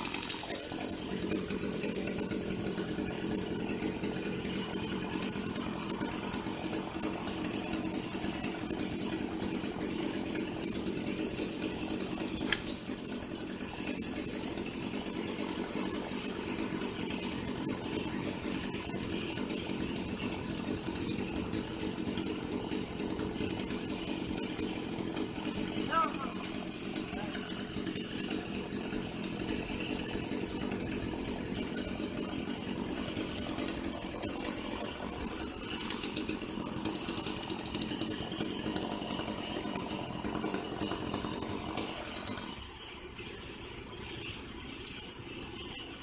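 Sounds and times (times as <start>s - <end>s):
chainsaw running: 0.0s - 46.0s.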